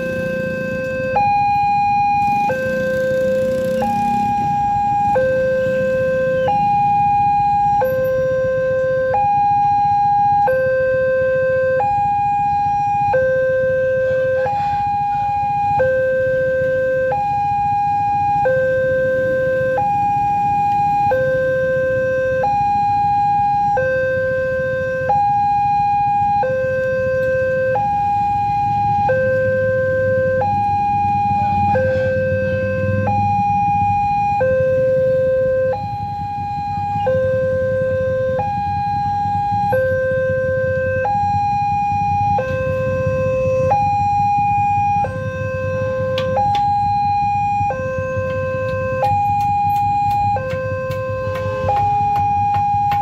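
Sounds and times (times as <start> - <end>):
two-tone crossing alarm: 0.0 - 53.0.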